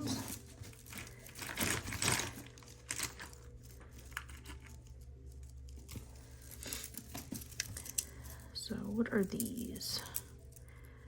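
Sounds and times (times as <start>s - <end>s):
jewelry clicking and rustling: 0.0s - 11.0s.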